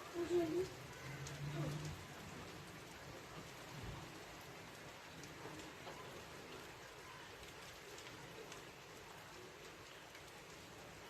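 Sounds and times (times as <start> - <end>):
faint drips: 0.0 - 11.0
steady rain falling: 0.0 - 11.0.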